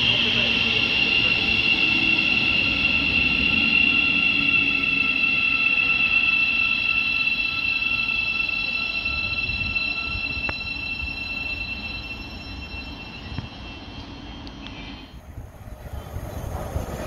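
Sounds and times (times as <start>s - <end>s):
electric train whine: 0.0s - 17.0s
wheels rumbling on rails: 0.0s - 17.0s.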